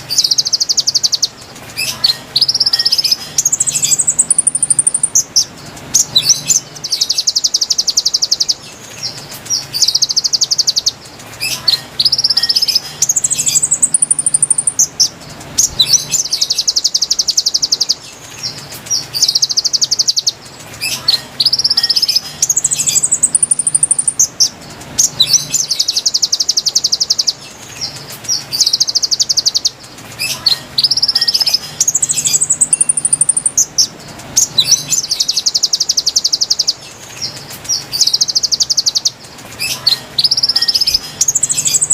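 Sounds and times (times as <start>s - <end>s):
bird buzzy trills: 0.0s - 41.9s.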